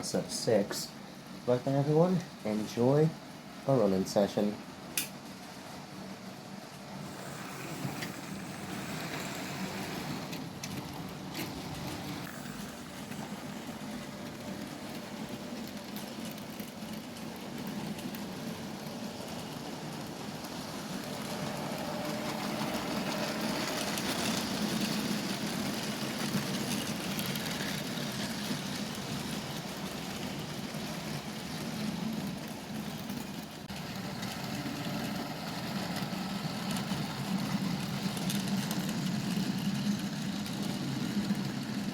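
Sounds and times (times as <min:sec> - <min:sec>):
wheels rumbling on track: 0:05.8 - 0:41.9.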